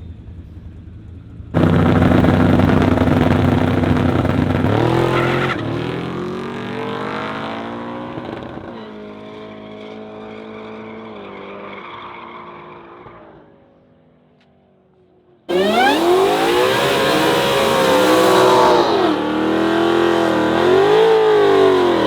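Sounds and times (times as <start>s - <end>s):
drag race car accelerating: 1.6s - 13.4s, 15.5s - 22.0s.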